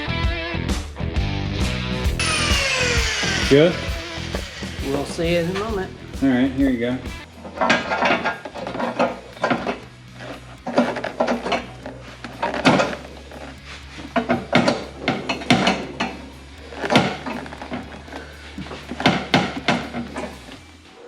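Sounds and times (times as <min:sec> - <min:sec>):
steady low hum: 0:02.2 - 0:20.8.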